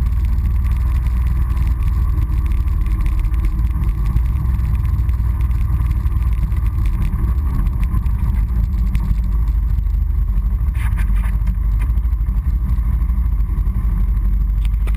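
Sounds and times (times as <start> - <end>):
quad bike engine rumbling: 0.0 - 14.9.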